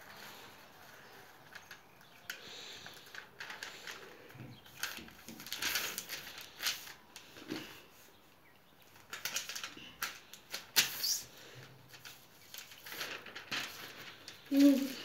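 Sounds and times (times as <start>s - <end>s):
paper rustling and crackling: 0.0s - 15.0s.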